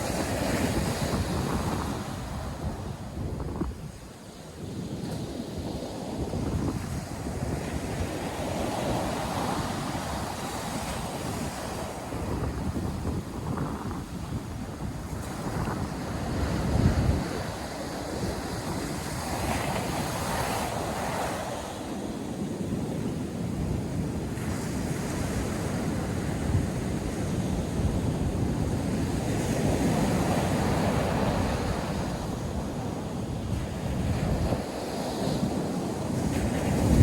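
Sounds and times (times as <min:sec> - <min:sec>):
surf breaking on a beach: 0:00.0 - 0:37.0
wind buffeting the microphone: 0:00.0 - 0:37.0.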